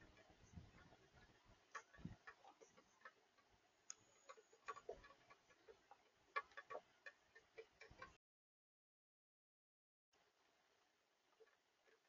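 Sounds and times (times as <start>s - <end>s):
small clicks and ticks: 0.0s - 8.2s, 10.2s - 12.0s.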